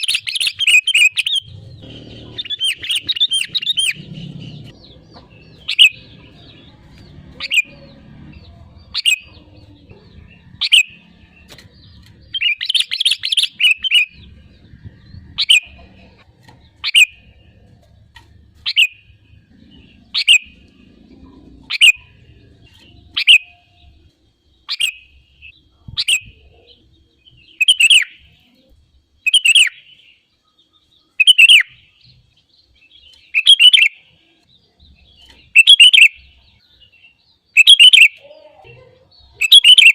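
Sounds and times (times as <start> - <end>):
bulbul calling: 0.0 - 24.0, 24.6 - 28.5, 29.3 - 30.1, 31.2 - 31.9, 33.0 - 34.1, 35.1 - 36.5, 37.5 - 38.3, 39.1 - 39.9.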